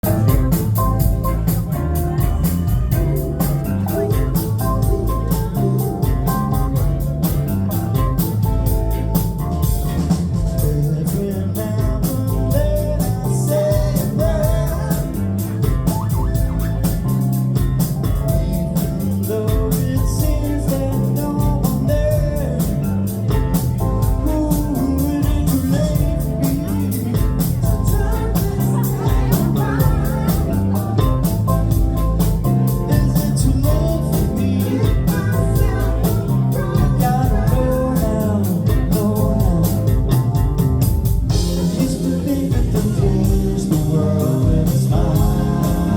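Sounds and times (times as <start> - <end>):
live band music: 0.0 - 45.9
steady drum beat: 0.0 - 45.9.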